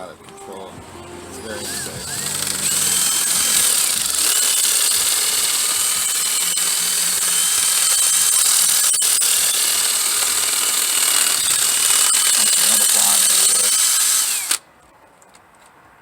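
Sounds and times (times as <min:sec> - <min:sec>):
power tool whining: 0:00.0 - 0:14.6.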